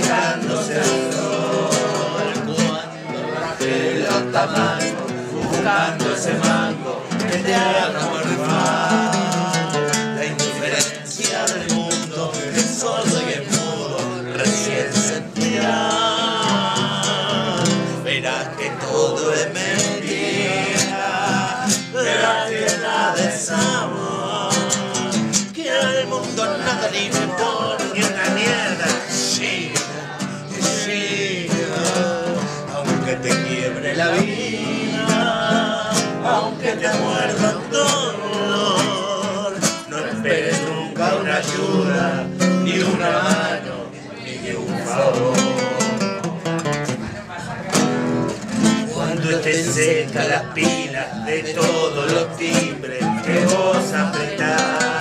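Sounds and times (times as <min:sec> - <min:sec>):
two men singing: 0:00.0 - 0:46.2, 0:48.3 - 0:55.0
strummed classical guitar: 0:00.0 - 0:55.0.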